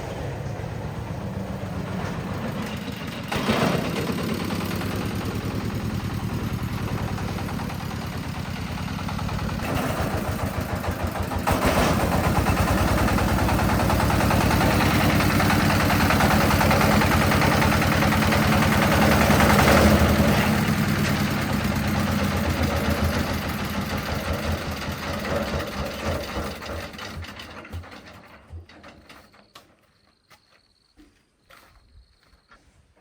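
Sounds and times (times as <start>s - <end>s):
small engine running: 0.0s - 28.7s.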